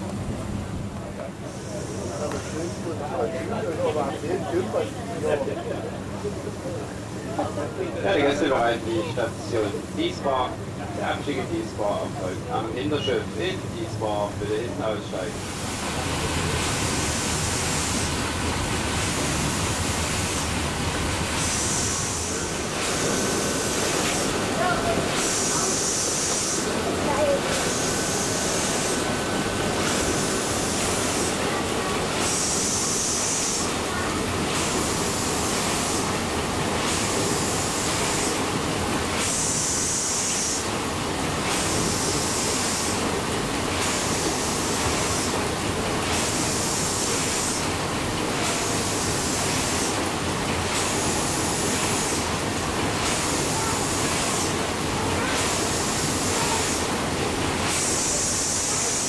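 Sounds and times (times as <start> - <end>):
steam engine mechanical rumble: 0.0 - 5.2, 5.8 - 59.0
rhythmic steam hiss: 0.3 - 59.0.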